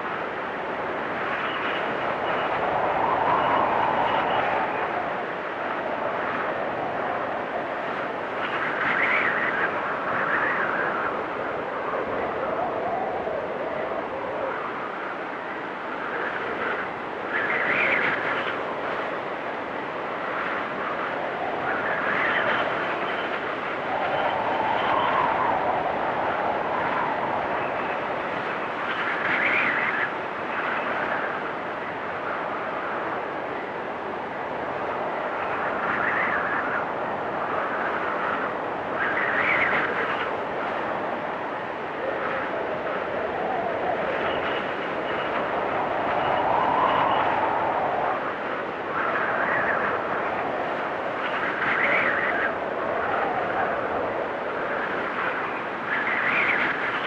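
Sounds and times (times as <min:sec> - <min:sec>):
storm wind gusts whistling: 0:00.0 - 0:57.0.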